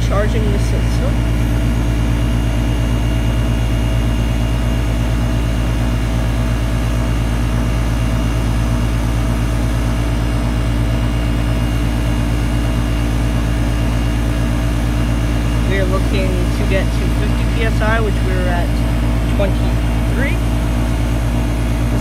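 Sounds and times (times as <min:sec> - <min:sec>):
air conditioner unit humming: 0:00.0 - 0:22.0.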